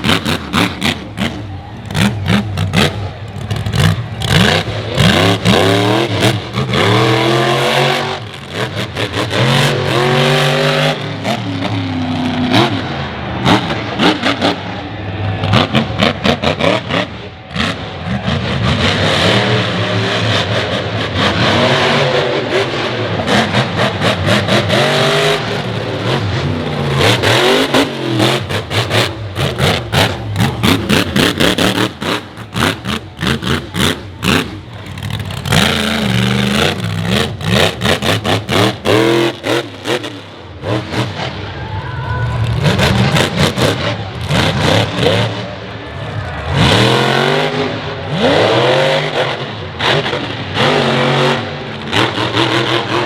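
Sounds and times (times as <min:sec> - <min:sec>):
truck engine revving hard: 0:00.0 - 0:41.6, 0:42.3 - 0:53.0.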